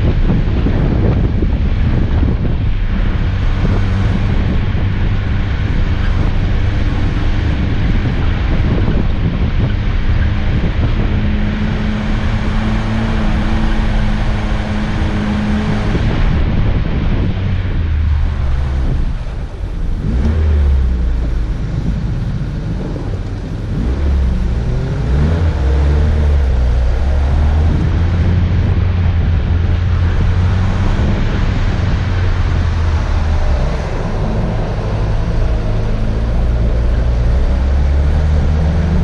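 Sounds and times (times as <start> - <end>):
off-road vehicle engine running: 0.0 - 39.0
wind noise on microphone: 0.0 - 39.0.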